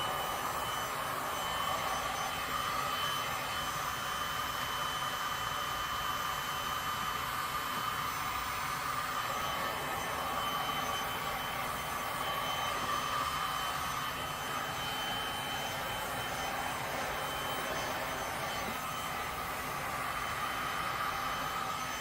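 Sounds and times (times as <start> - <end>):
heat gun blowing air: 0.0 - 22.0.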